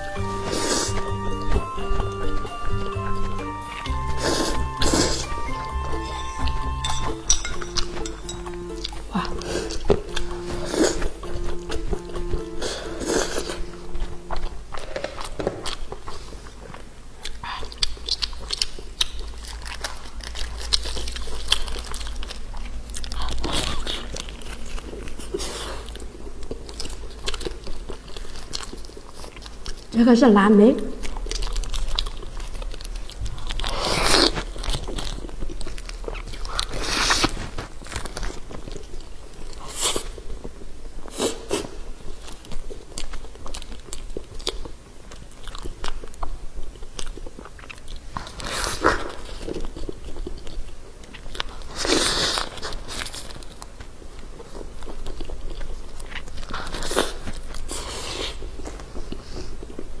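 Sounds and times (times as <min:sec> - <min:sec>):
biting and chewing: 0:00.0 - 0:30.0, 0:30.9 - 1:00.0.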